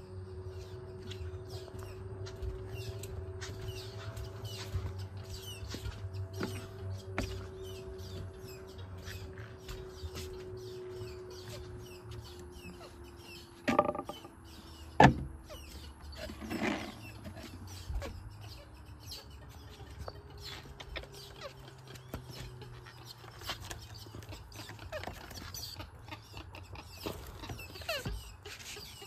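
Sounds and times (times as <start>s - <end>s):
steady low hum: 0.0s - 27.3s
birds chirping: 0.0s - 29.0s.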